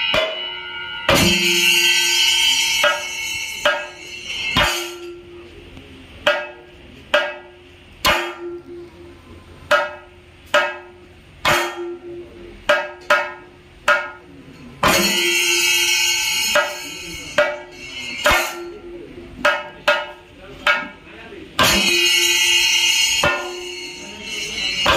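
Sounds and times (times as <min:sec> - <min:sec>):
drum strokes ringing: 0:00.0 - 0:24.9.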